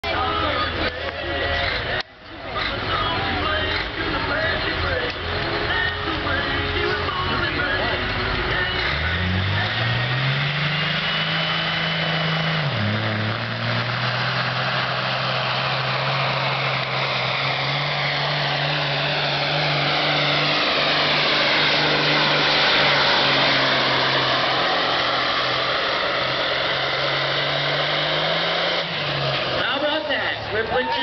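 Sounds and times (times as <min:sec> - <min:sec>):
truck engine at full throttle: 0:00.0 - 0:31.0.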